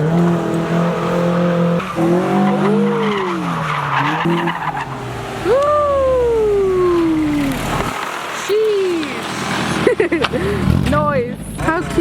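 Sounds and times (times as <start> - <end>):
tyres squealing and skidding: 0.0 - 10.7
car engine revving hard: 0.0 - 10.9.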